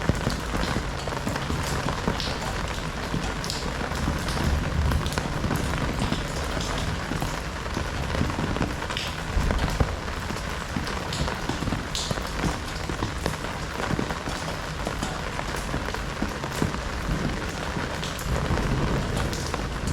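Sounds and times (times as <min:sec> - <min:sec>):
heavy rain falling: 0:00.0 - 0:19.9
raindrops pattering: 0:00.0 - 0:19.9.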